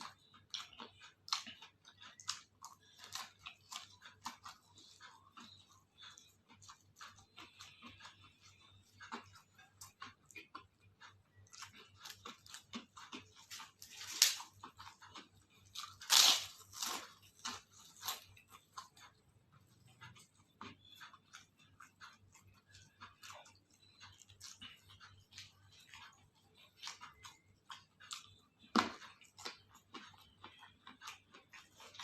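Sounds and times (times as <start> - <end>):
person chewing crisp food: 0.0 - 32.0.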